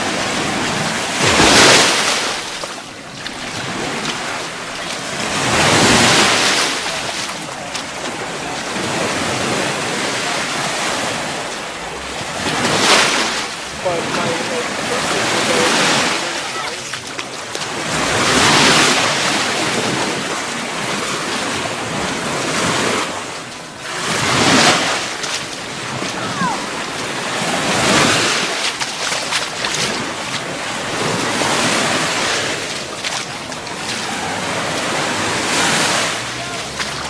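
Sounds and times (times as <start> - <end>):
surf breaking on beach: 0.0 - 37.0.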